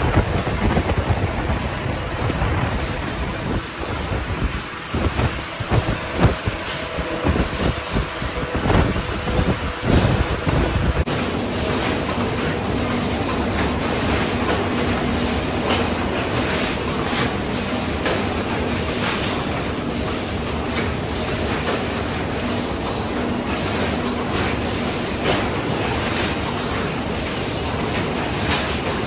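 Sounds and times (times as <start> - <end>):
mechanical din of machinery: 0.0 - 29.0.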